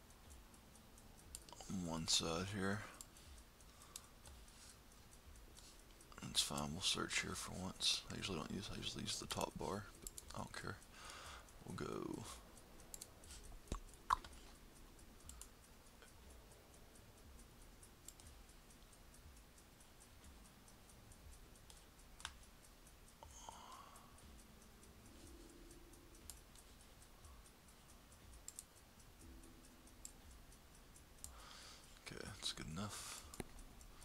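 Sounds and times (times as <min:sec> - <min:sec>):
computer mouse clicks: 0:00.1 - 0:34.0.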